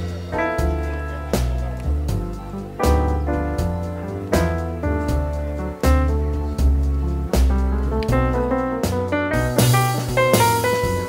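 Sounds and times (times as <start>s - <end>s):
upbeat jazz with drums and piano: 0.0s - 11.0s.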